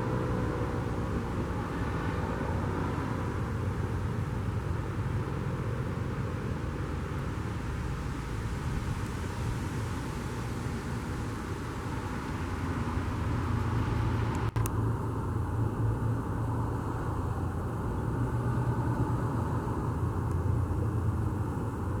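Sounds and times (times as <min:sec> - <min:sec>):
low outdoor rumble: 0:03.1 - 0:22.0.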